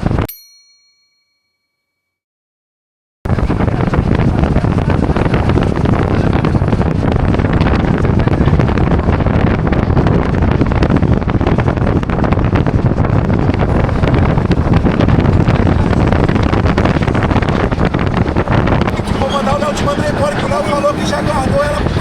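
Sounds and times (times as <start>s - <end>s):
wind buffeting microphone: 3.3s - 22.0s.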